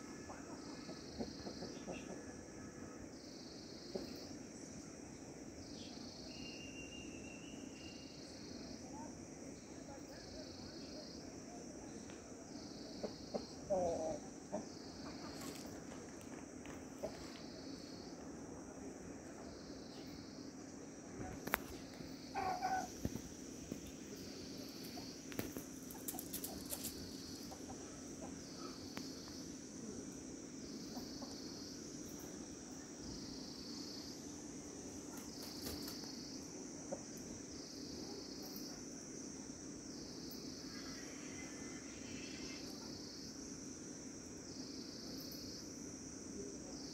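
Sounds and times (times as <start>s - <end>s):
insects droning in pulses: 0.0s - 46.9s.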